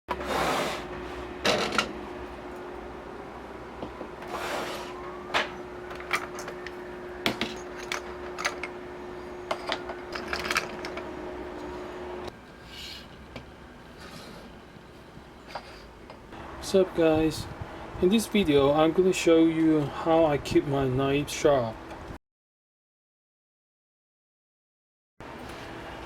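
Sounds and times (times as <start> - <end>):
steady low hum: 0.2 - 22.2.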